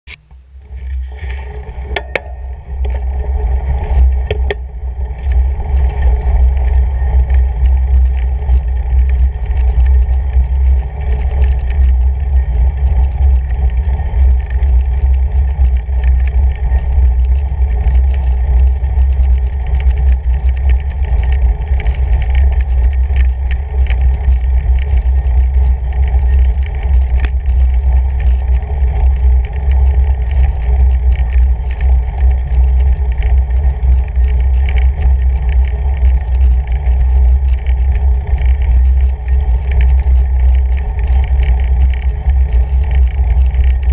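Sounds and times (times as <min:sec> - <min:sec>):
small clicks and crunches: 0:00.1 - 0:43.9
bike tires rumbling over snow: 0:00.3 - 0:43.9.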